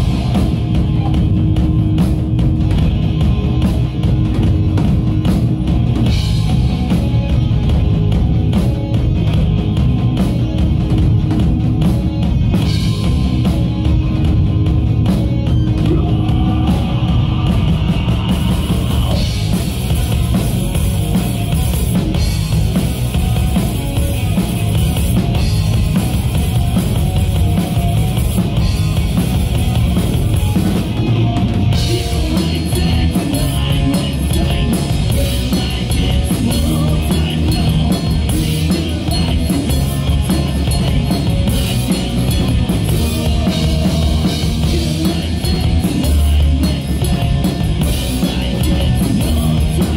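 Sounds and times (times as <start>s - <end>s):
bass guitar: 0.0s - 49.9s
distorted electric guitars: 0.0s - 49.9s
drum kit: 0.0s - 49.9s.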